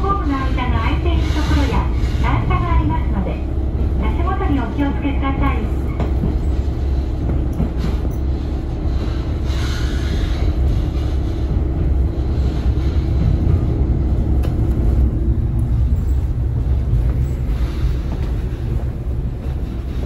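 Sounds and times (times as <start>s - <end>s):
diesel engine low rumble: 0.0s - 20.0s
train wheels on track: 0.0s - 20.0s.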